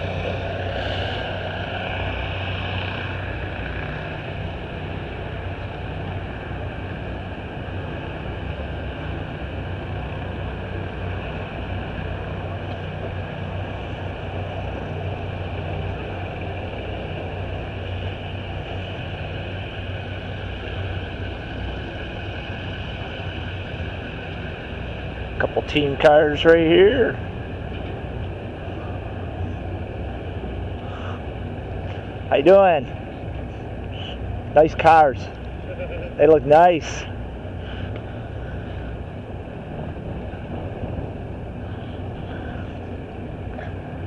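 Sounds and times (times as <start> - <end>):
engine humming steadily: 0.0 - 44.0.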